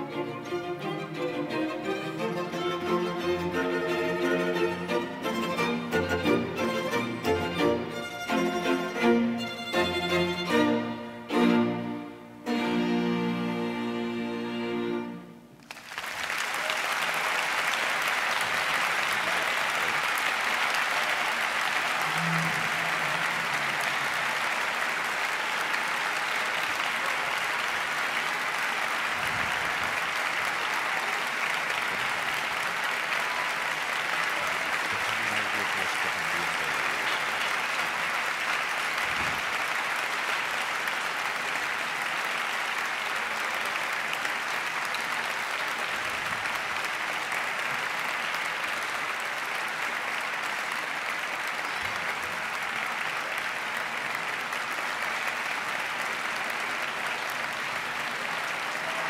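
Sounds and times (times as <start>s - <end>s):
audience applauding: 0.0s - 11.1s, 15.6s - 59.0s.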